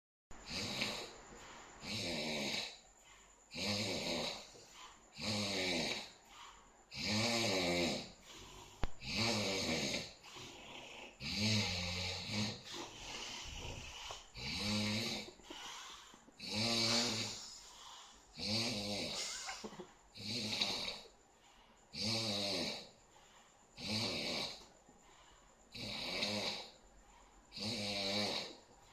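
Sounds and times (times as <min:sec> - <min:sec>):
person snoring: 0:00.4 - 0:02.9, 0:03.5 - 0:21.1, 0:21.9 - 0:23.0, 0:23.8 - 0:24.7, 0:25.7 - 0:26.8, 0:27.5 - 0:28.6.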